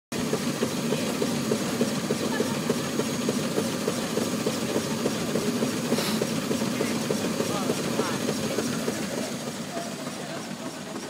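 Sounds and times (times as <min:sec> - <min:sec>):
steam traction engine clattering: 0:00.1 - 0:11.0.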